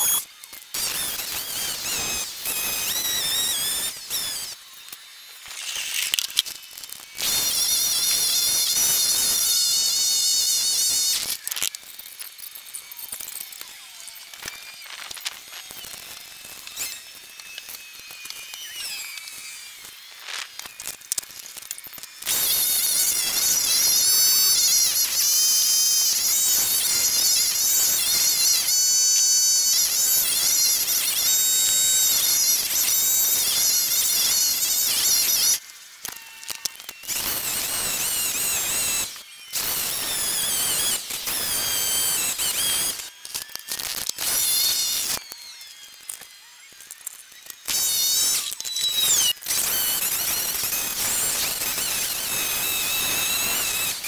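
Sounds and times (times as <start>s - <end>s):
high-pitched engine buzzing: 0.0s - 54.0s.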